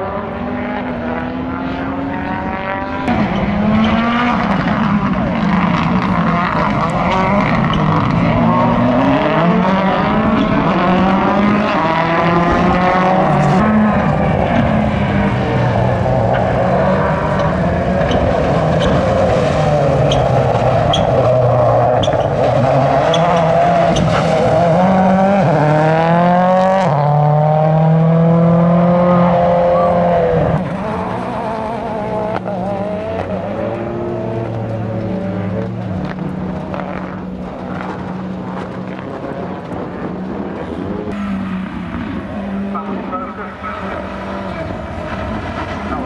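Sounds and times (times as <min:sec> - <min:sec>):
distant engine pulling steadily: 0:00.0 - 0:46.0
rally car engine accelerating: 0:00.0 - 0:46.0.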